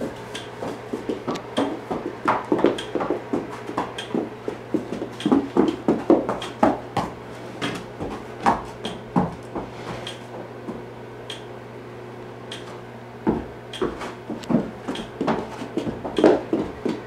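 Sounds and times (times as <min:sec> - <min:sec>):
hooves knocking on hard floor: 0:00.0 - 0:11.4, 0:12.6 - 0:17.0.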